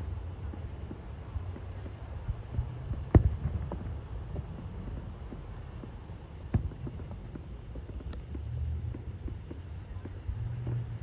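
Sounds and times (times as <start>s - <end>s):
distant fireworks bangs and pops: 0.0s - 11.0s
low steady rumble: 0.0s - 11.0s.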